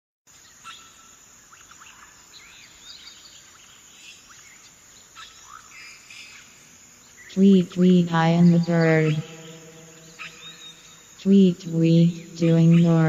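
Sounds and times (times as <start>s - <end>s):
steady background hiss: 0.3s - 13.0s
birds chirping: 0.4s - 13.0s.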